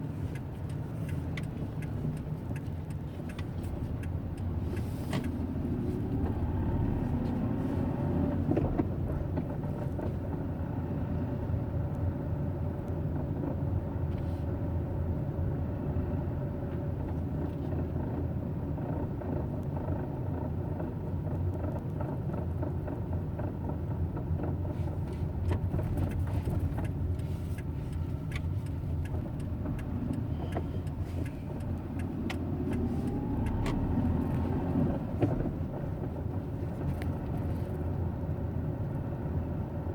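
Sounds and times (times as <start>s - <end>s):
car engine low rumble: 0.0s - 39.9s.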